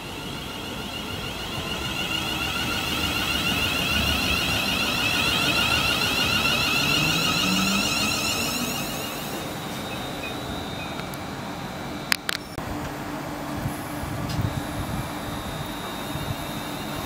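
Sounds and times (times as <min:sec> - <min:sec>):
electric train motors whining: 0:00.0 - 0:17.0
train wheels rumbling on rails: 0:00.0 - 0:17.0.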